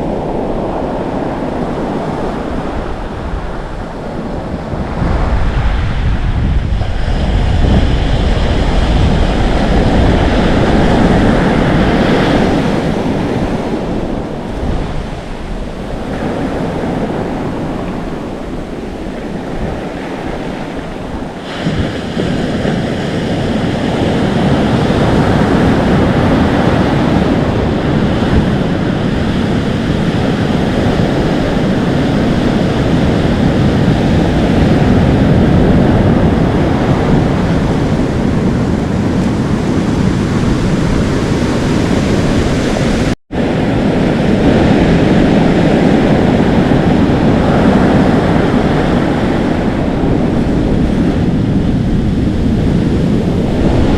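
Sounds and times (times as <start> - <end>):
waves crashing on the shore: 0.0 - 53.9
wind blowing across microphone: 0.0 - 53.9.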